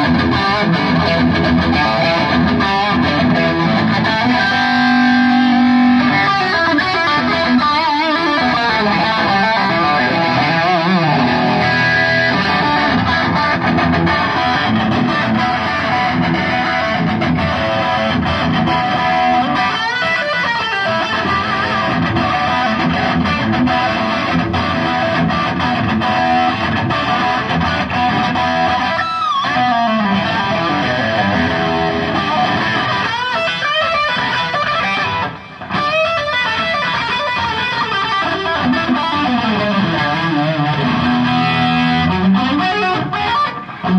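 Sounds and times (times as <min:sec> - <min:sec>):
electric guitar with bent notes: 0:00.0 - 0:43.9.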